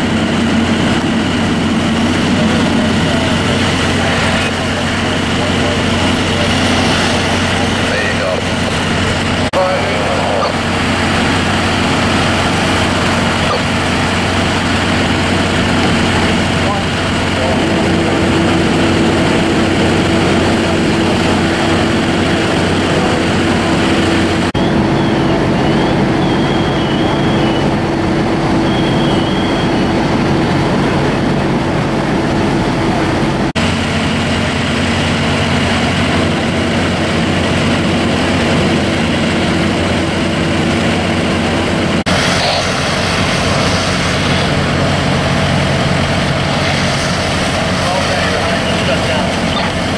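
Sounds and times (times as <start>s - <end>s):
fire truck engines running: 0.0s - 49.9s.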